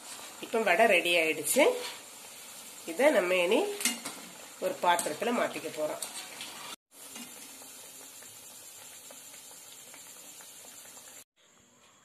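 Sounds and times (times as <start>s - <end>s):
food deep-frying in hot oil: 0.0s - 11.3s.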